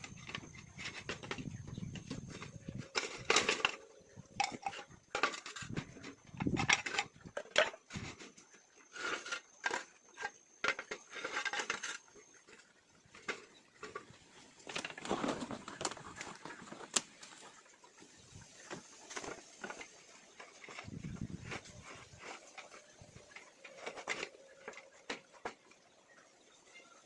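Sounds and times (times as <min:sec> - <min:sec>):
hard objects knocking and scraping: 0:00.0 - 0:17.0, 0:18.3 - 0:26.0.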